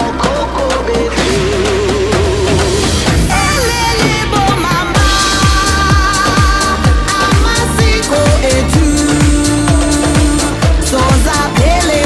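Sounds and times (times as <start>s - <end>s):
electronic kick drum beat: 0.0s - 12.0s.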